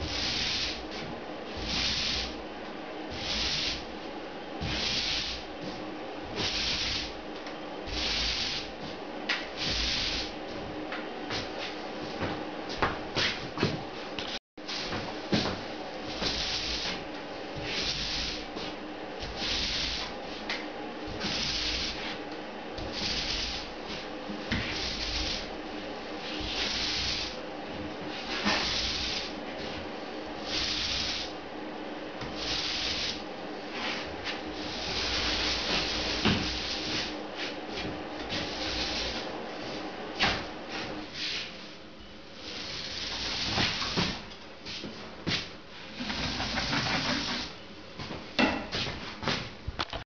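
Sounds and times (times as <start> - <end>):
paint roller rasping on ceiling: 0.0 - 2.4, 3.0 - 7.2, 7.8 - 10.7, 14.6 - 31.4, 32.2 - 41.8, 42.4 - 45.0, 45.8 - 47.6.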